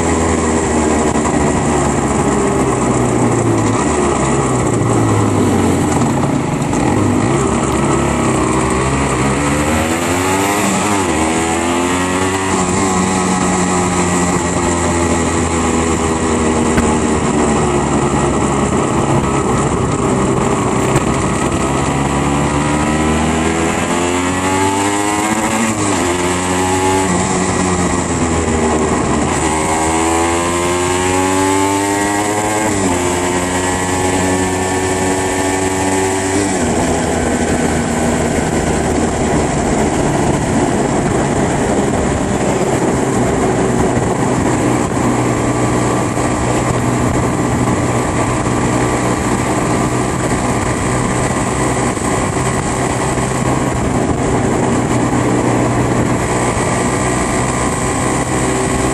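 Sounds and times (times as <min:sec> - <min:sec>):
motorcycle engine accelerating: 0:00.0 - 0:58.9
wind noise rushing: 0:00.0 - 0:58.9.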